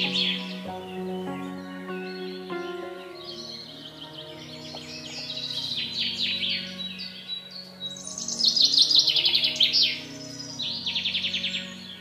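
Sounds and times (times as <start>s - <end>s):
bird chirps and trills: 0.0s - 12.0s
soft music drone: 0.0s - 12.0s.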